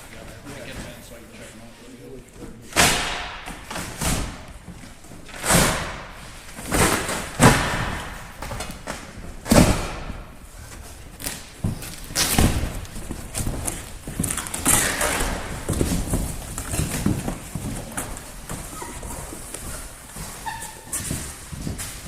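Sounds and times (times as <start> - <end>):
thumps of crate and cardboard handling: 2.7 - 22.0.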